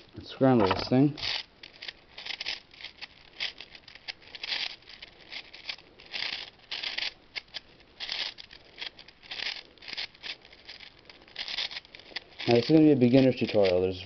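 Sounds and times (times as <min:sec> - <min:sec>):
puzzle cube turning clicks: 0:00.5 - 0:13.9.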